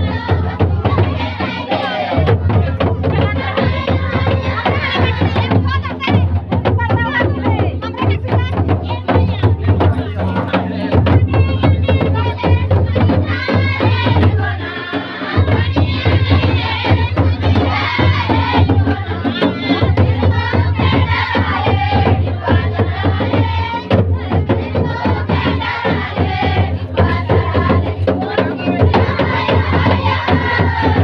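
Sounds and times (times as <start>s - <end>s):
barrel drum beat: 0.0s - 31.0s
group singing: 0.0s - 31.0s
kettledrum beaten with sticks: 0.0s - 31.0s.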